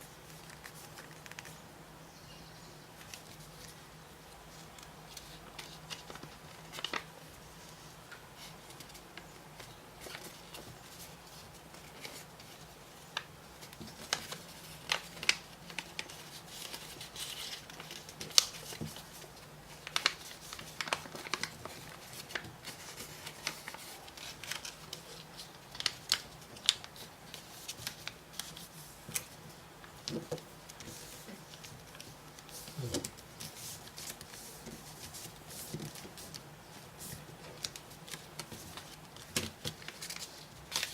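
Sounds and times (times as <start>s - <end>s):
paper being folded and creased: 4.5s - 7.8s, 8.4s - 40.9s.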